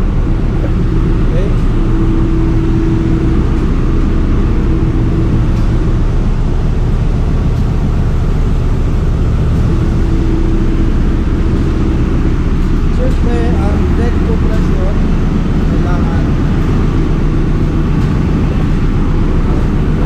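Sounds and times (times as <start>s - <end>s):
engine room machinery drone: 0.0s - 20.0s.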